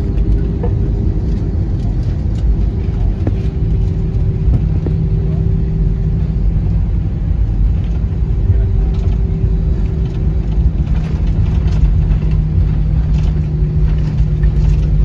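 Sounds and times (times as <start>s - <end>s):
jet engine and rolling rumble: 0.0s - 15.0s
steady cabin hum: 0.0s - 15.0s.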